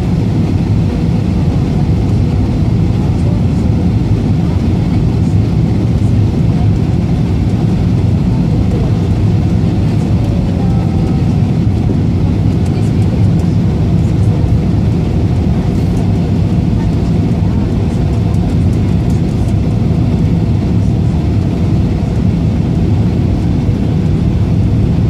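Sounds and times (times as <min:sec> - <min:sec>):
airliner cabin noise: 0:00.0 - 0:25.0.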